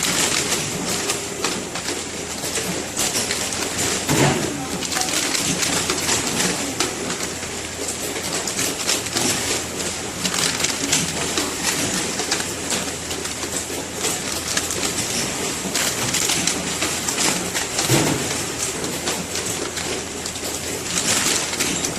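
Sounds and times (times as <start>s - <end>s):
weighing machine clattering: 0.0s - 21.9s.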